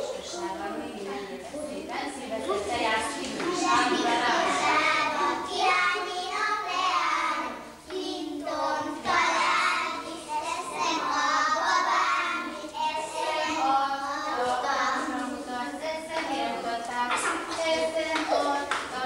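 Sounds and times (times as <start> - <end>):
children singing in unison: 3.4 - 19.0.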